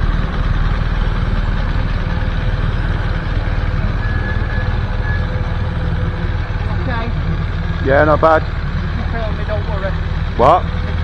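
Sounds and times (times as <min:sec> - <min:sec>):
motorcycle engines idling: 0:00.0 - 0:11.0.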